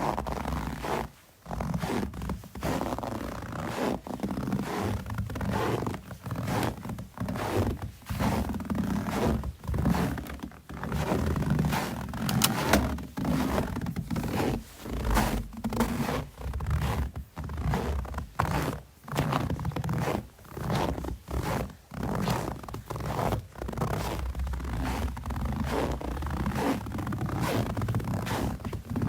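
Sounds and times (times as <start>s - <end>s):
footsteps crunching in snow: 1.6s - 29.0s.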